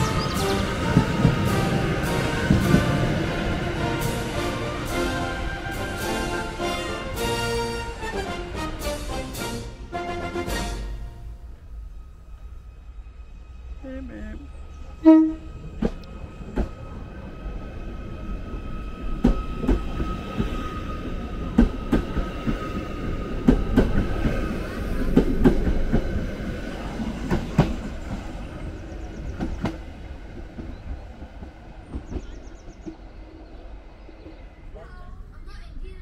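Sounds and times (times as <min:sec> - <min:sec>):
electric train running on rails: 0:00.0 - 0:36.0.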